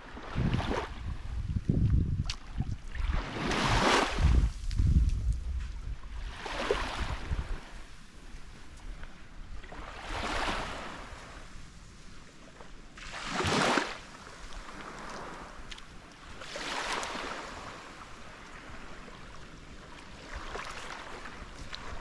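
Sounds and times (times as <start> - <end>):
small waves washing on sand: 0.0 - 22.0.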